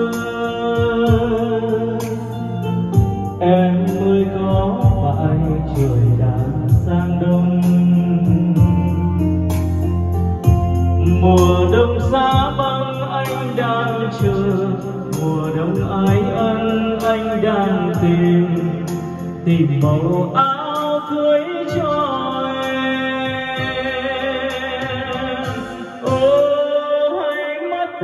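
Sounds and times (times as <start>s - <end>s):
sustained bass notes: 0.0s - 26.8s
person singing ballad over backing music: 0.0s - 28.0s.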